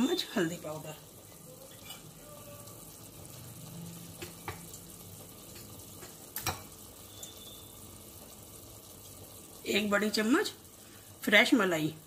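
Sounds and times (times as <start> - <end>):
sauce bubbling in a pan: 0.0 - 12.0.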